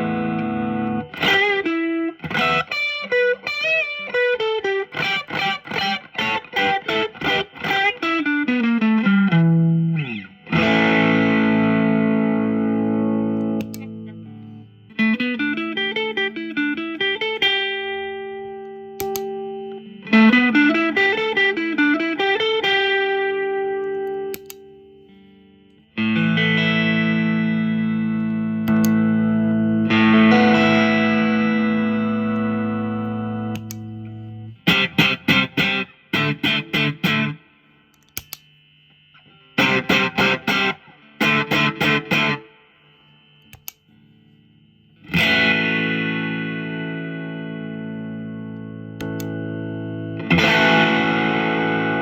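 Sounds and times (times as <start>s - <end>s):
overdriven electric guitar: 0.0s - 52.0s.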